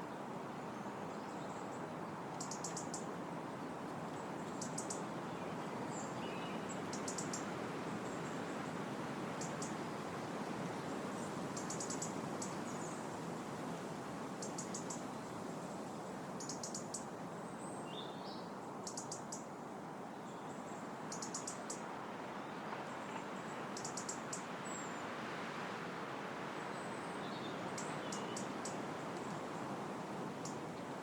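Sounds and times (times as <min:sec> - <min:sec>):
wind rustling leaves: 0:00.0 - 0:31.0.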